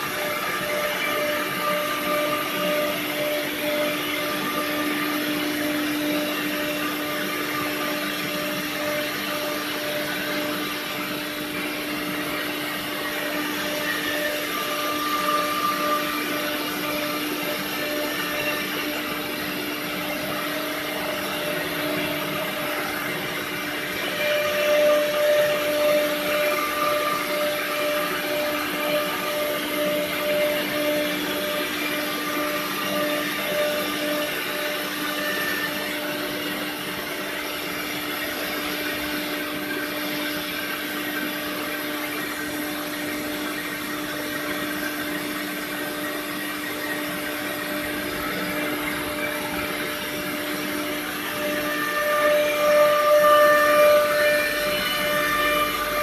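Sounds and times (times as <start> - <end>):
router spindle machining wood: 0.0 - 56.0.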